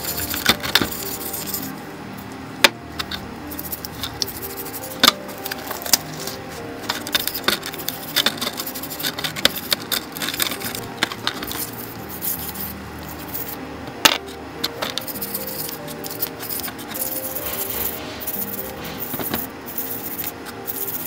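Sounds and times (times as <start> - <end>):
metal parts clinking: 0.0 - 1.8, 2.6 - 21.0
toothbrush scrubbing metal parts: 0.0 - 1.8, 3.0 - 21.0.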